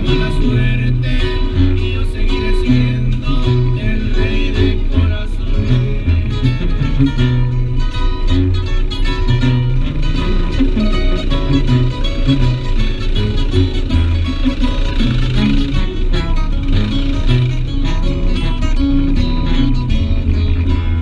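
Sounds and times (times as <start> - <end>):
guitar music with steady beat: 0.0 - 21.0.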